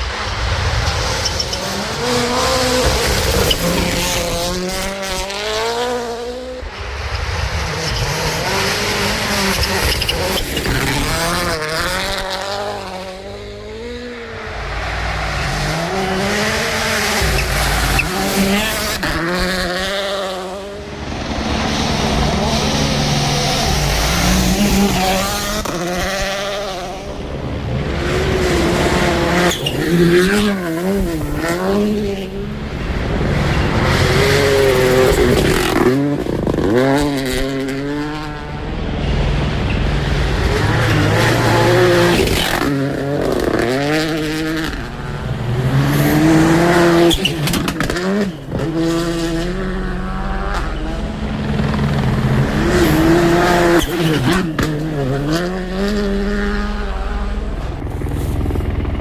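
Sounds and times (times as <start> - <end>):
rally car engines revving hard: 0.0 - 58.8.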